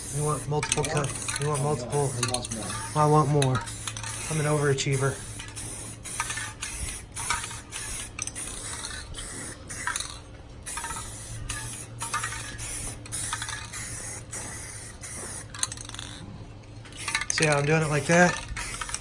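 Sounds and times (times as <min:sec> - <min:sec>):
spray paint can hissing: 0:00.0 - 0:16.2, 0:16.9 - 0:19.0.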